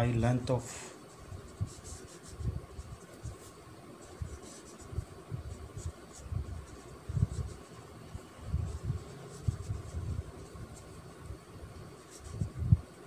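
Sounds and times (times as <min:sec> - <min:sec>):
marker scratching on paper: 0:01.0 - 0:11.1, 0:11.8 - 0:13.0.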